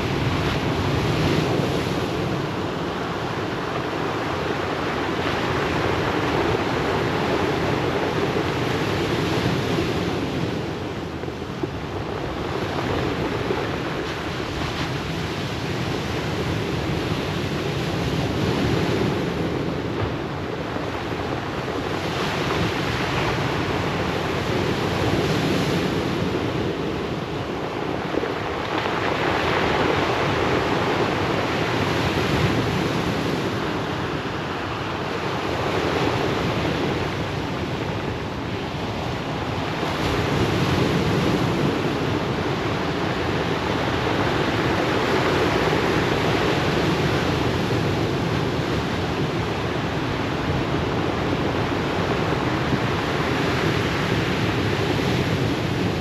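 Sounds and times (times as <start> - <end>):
surf washing on pebble beach: 0.0 - 56.0.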